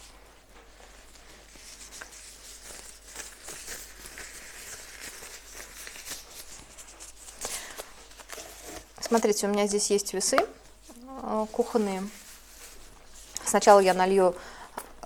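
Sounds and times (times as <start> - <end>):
soft rustling and crinkling: 0.0 - 15.0.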